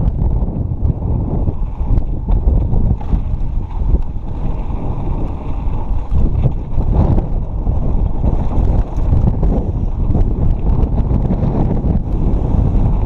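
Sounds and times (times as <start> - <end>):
bike rolling on dirt trail: 0.0 - 13.0
wind buffeting microphone: 0.0 - 13.0
bike clicks and rattles: 1.4 - 13.0.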